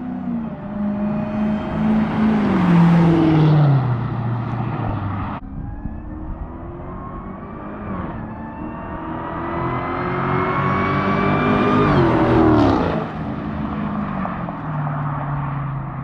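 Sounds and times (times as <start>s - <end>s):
car engine passing at speed: 0.0s - 16.0s.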